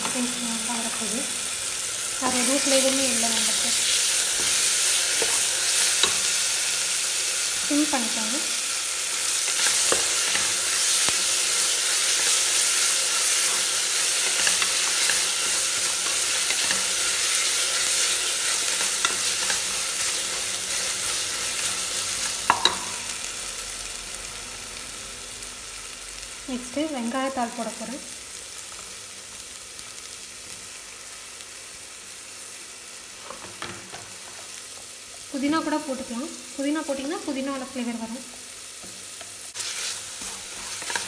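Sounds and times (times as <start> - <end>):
onions sizzling in pot: 0.0 - 41.0.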